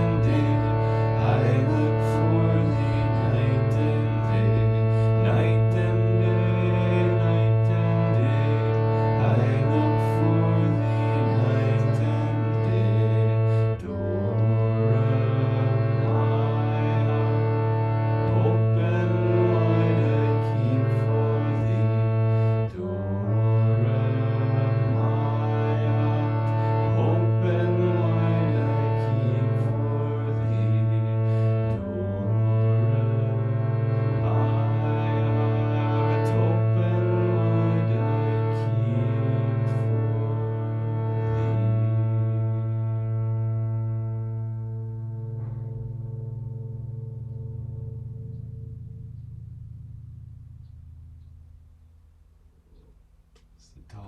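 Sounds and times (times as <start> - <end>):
low drone: 0.0 - 54.0
slow held melody notes: 0.0 - 54.0.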